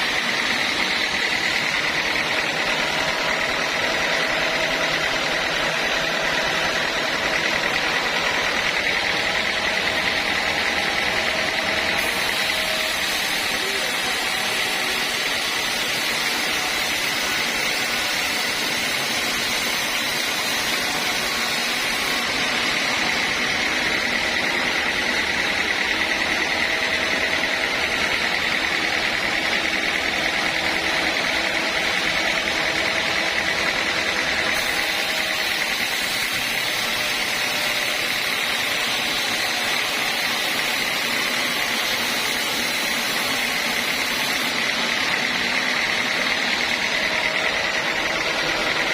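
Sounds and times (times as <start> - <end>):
band sawmill running: 0.0 - 48.9.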